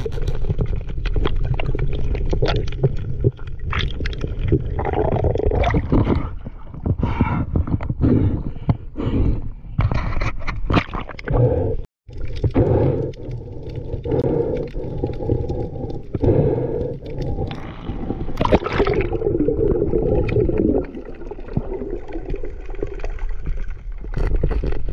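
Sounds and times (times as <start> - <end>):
water gurgling and sloshing: 0.0 - 8.8, 9.6 - 24.9.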